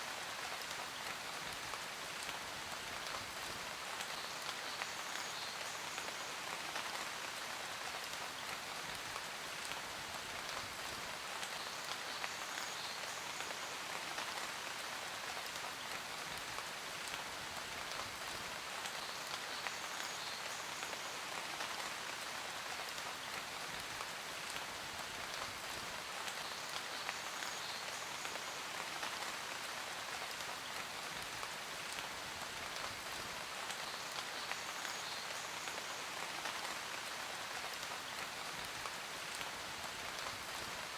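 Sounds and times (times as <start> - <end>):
steady rain patter: 0.0 - 40.9.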